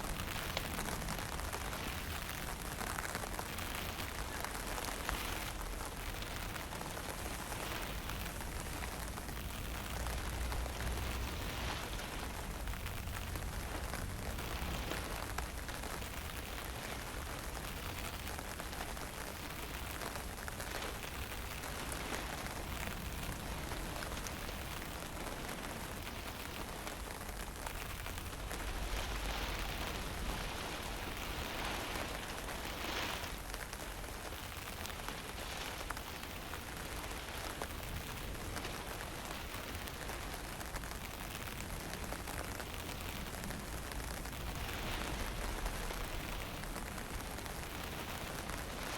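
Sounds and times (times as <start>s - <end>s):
wind: 0.0s - 48.9s.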